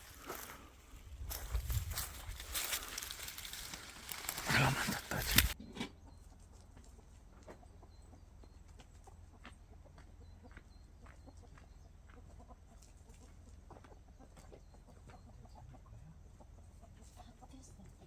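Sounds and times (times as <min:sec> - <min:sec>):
chickens clucking: 0:01.3 - 0:18.0.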